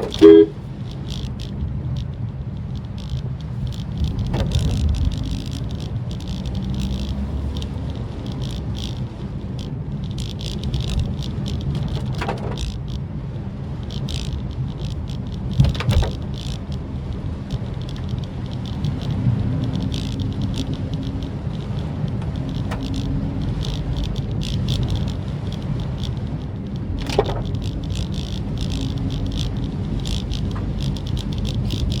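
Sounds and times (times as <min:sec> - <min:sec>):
car road and engine rumble: 0:00.0 - 0:32.0
rain ticking on car: 0:00.0 - 0:32.0.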